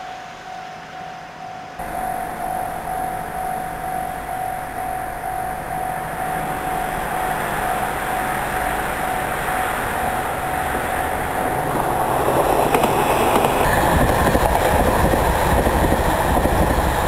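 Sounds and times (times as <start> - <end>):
thin steady tone: 0.0 - 17.0
train rail rumble: 1.8 - 17.0.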